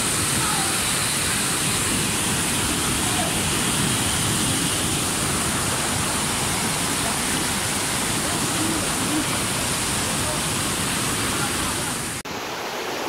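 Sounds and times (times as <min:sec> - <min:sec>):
water rushing over boulders: 0:00.0 - 0:13.0.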